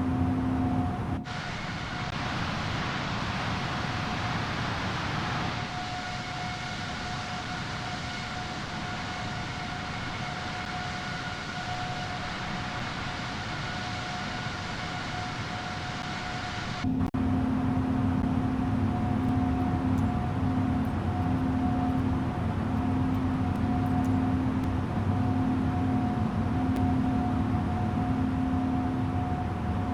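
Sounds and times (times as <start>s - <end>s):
jet engines rushing with whine: 0.0s - 29.9s.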